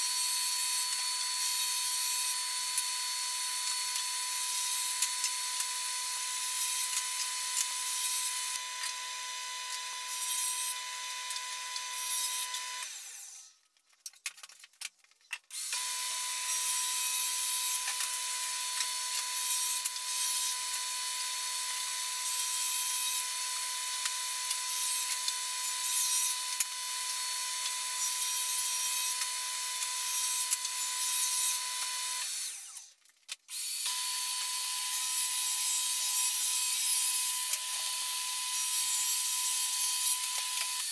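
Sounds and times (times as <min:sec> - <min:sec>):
saw blade cutting plywood: 0:00.0 - 0:13.5, 0:15.5 - 0:32.9, 0:33.5 - 0:40.9
table saw motor whine: 0:00.0 - 0:13.5, 0:15.6 - 0:32.8, 0:33.5 - 0:40.9.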